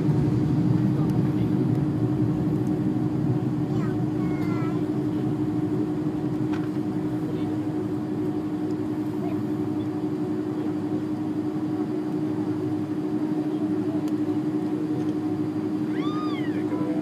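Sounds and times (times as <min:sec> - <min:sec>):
airliner engines humming: 0:00.0 - 0:17.0.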